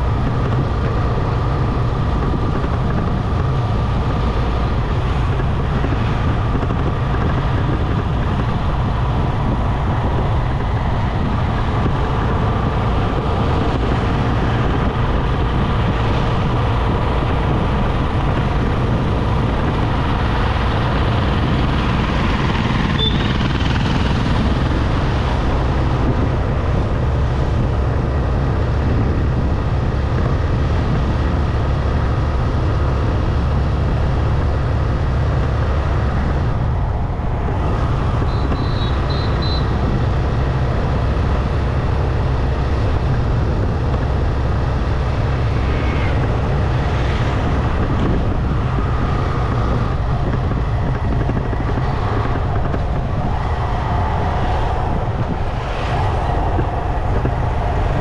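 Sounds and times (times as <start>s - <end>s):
motorcycle engine and wind rumble: 0.0s - 58.0s
road noise: 0.0s - 58.0s.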